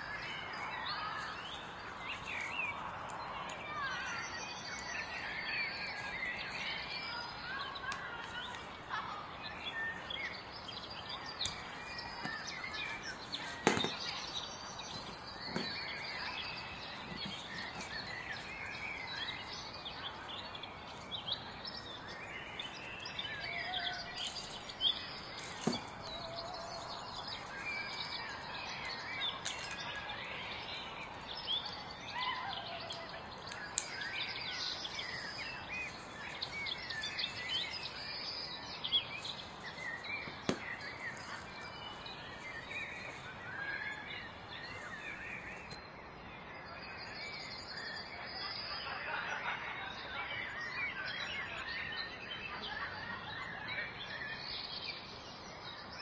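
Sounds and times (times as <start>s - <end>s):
small birds chirping: 0.0s - 48.7s.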